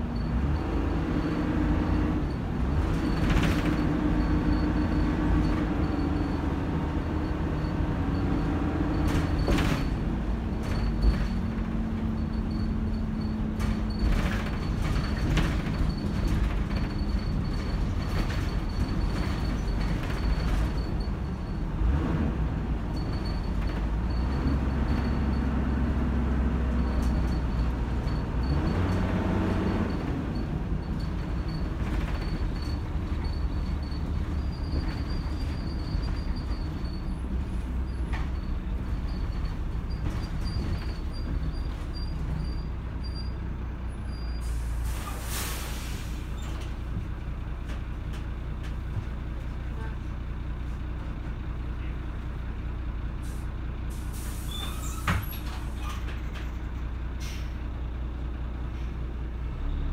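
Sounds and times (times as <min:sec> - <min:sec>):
bus engine under load: 0:00.0 - 0:59.9.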